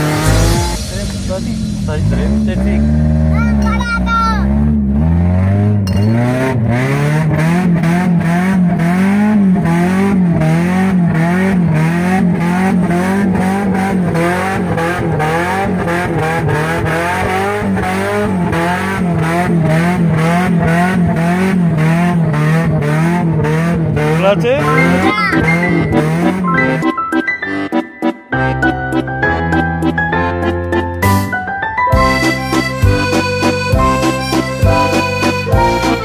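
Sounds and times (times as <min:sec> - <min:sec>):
car engine revving: 0:00.0 - 0:31.2, 0:32.0 - 0:36.0.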